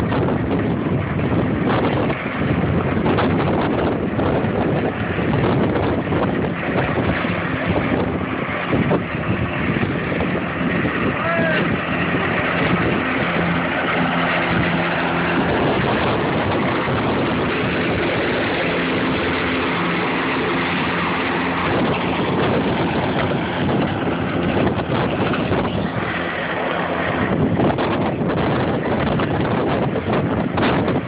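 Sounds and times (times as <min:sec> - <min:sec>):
electric mower motor hum: 0:00.0 - 0:30.3
broad rushing noise: 0:00.0 - 0:31.0.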